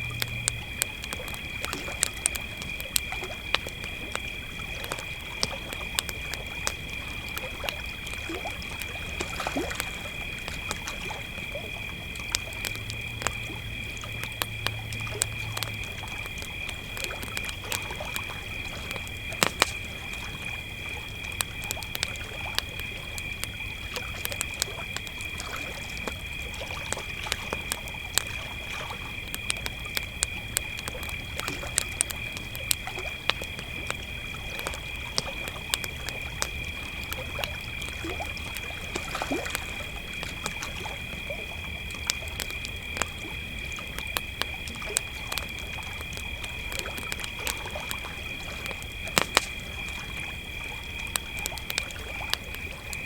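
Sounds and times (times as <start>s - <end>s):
campfire crackling and popping: 0.0s - 53.0s
crickets trilling: 0.0s - 53.0s.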